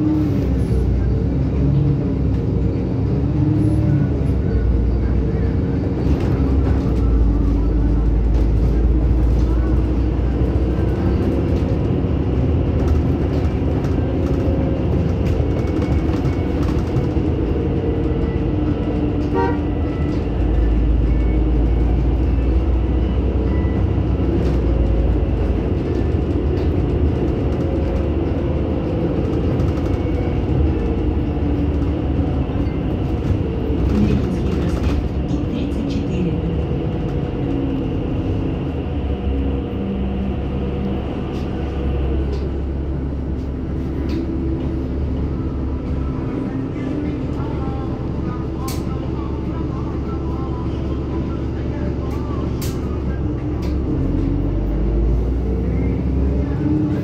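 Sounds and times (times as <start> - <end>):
bus engine hum: 0.0 - 57.0
deep road rumble: 0.0 - 57.0.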